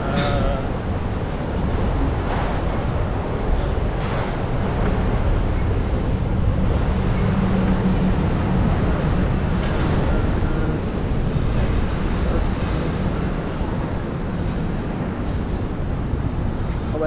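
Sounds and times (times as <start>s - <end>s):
steady low hum: 0.0s - 17.0s
wind rushing over microphone: 0.0s - 17.0s.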